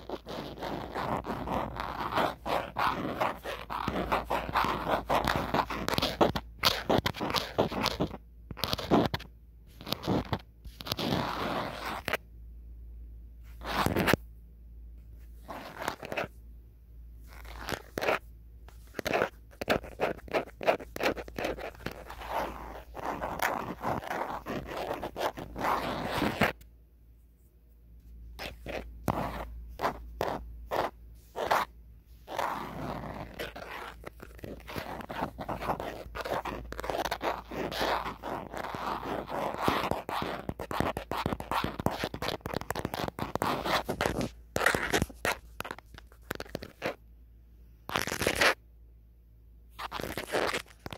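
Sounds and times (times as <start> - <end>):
fingernails scratching and tapping phone: 0.0 - 12.2, 13.5 - 14.2, 15.2 - 16.4, 17.2 - 26.7, 28.3 - 47.0, 47.9 - 48.6, 49.8 - 50.9.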